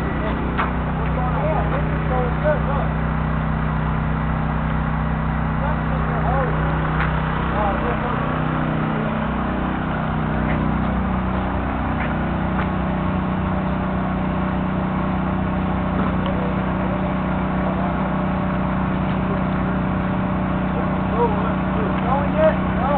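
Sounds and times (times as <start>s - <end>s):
pump engine droning: 0.0s - 22.9s.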